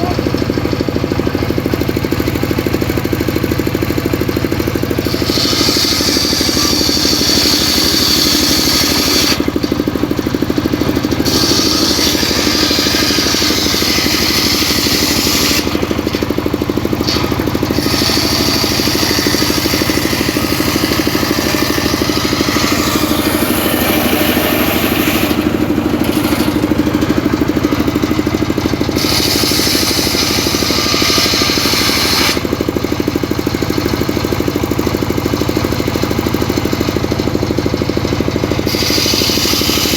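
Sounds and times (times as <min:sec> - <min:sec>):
engine drone: 0:00.0 - 0:39.9
saw blade cutting wood: 0:04.8 - 0:35.1, 0:37.6 - 0:39.9.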